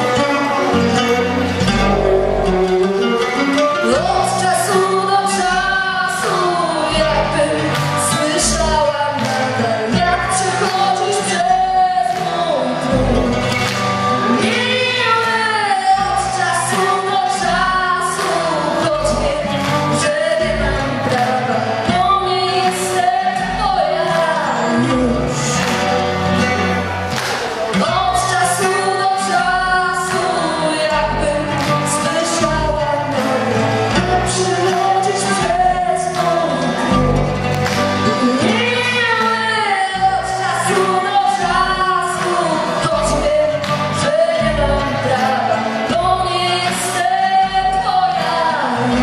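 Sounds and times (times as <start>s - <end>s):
woman singing into a microphone: 0.0s - 13.5s, 14.2s - 25.6s, 27.7s - 37.0s, 38.0s - 49.0s
amplified backing music with bass: 0.0s - 49.0s.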